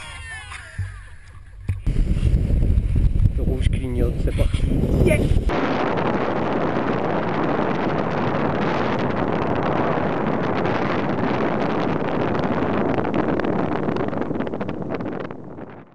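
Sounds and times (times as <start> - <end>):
wind rushing over microphone: 0.8 - 15.9.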